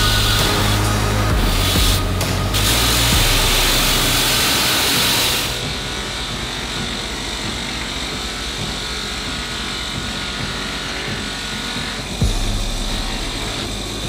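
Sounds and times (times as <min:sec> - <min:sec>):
finishing wheel motor whir: 0:00.0 - 0:14.0.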